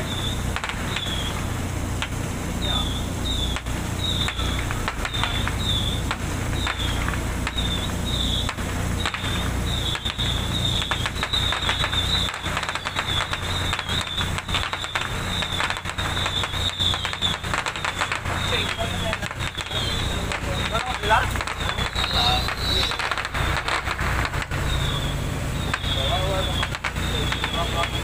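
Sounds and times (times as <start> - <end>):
diesel engines humming: 0.0 - 28.0
sharp cracks and pops: 0.0 - 28.0.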